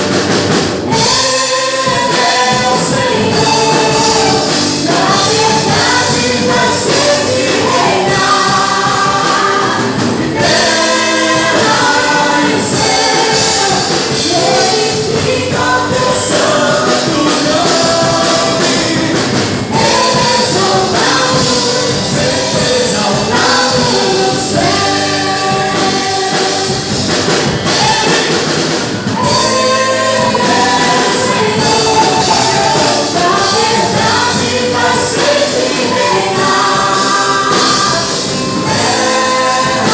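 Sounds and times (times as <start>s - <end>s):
voices singing with band: 0.0s - 39.9s.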